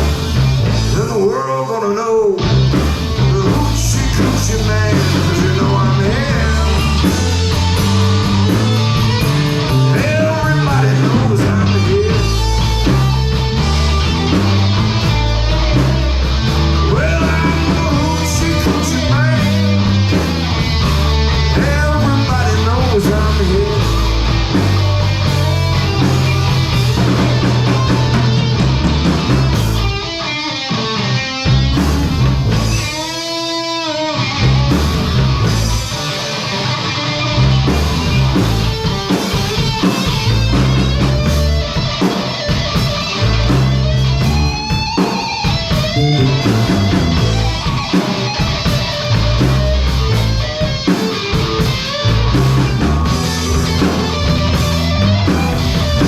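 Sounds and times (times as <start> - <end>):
blues-rock band playing: 0.0 - 56.0
electric guitar bent notes: 0.0 - 56.0.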